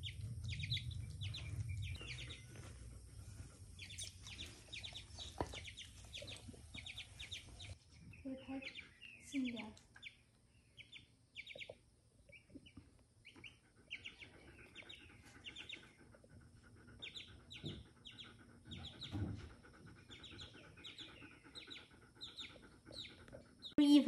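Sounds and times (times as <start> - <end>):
baby chick peeping: 0.0 - 24.0.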